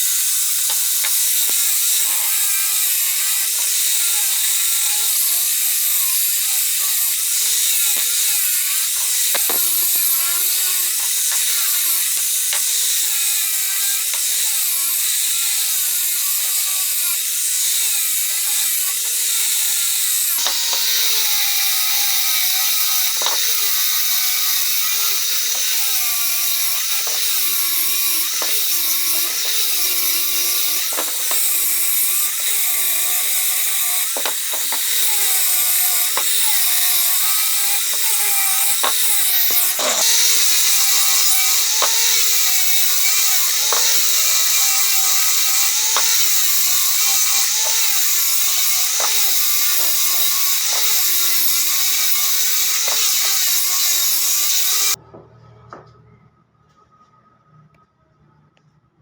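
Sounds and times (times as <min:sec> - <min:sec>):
power tool working wood: 0:00.0 - 0:55.0.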